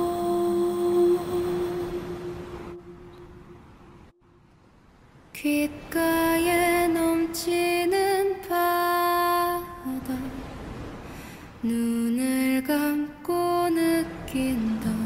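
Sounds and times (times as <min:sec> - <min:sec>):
person singing slow melody: 0:00.0 - 0:04.3, 0:05.4 - 0:10.6, 0:11.6 - 0:15.0.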